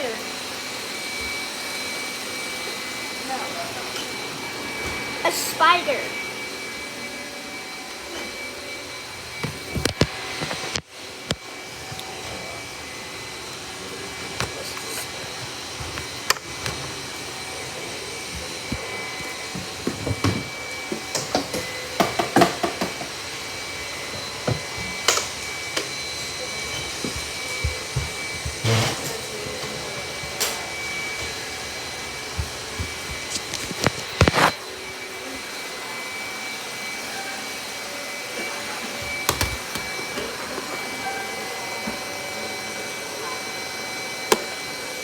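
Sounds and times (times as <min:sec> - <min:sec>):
robot vacuum whining: 0:00.0 - 0:45.0.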